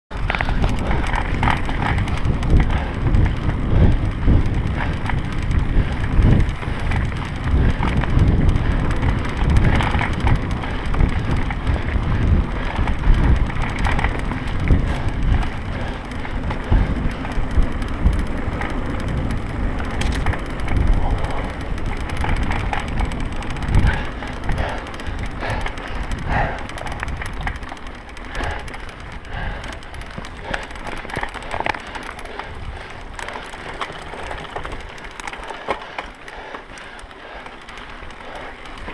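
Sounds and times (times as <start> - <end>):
bike tyres rumbling on dirt: 0.1 - 38.9
wind buffeting microphone: 0.1 - 38.9.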